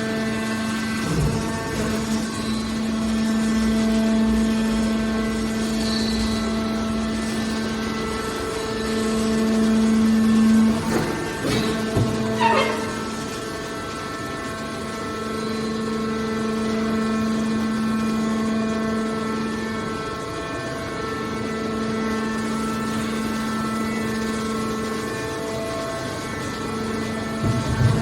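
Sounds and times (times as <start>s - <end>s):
baler machine humming and whining: 0.0s - 28.0s.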